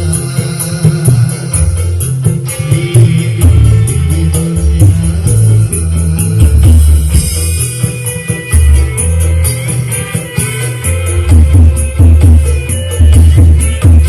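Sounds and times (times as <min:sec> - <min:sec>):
loud music with pulsing bass: 0:00.0 - 0:14.0.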